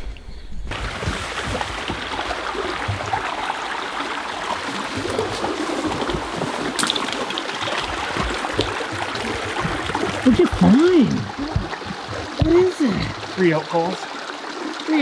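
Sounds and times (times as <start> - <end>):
creek water rushing: 0.7 - 15.0.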